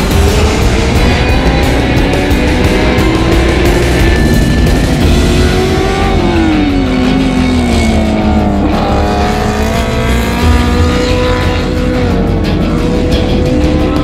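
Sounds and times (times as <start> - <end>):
motorcycle engine revving: 0.0 - 14.0
music: 0.0 - 14.0.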